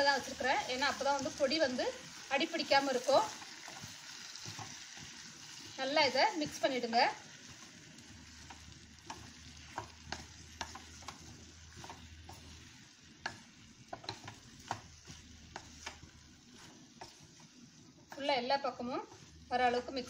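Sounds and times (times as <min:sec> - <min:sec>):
frying hiss: 0:00.0 - 0:20.0
spatula scraping pan: 0:00.0 - 0:20.0.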